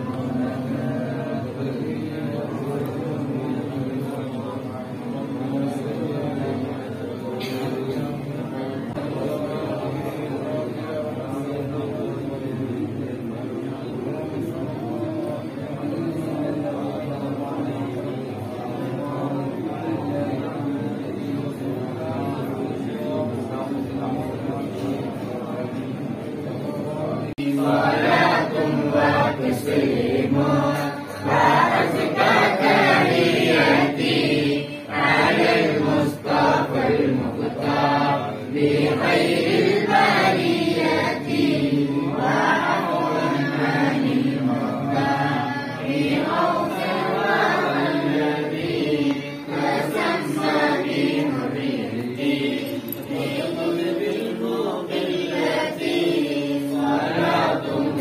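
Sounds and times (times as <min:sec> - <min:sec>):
group chanting in unison: 0:00.0 - 0:58.0.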